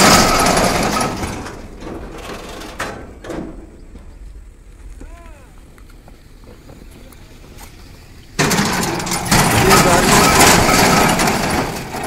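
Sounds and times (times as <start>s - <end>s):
tyres rattling on steel ramp: 0.0s - 4.2s, 6.4s - 12.0s.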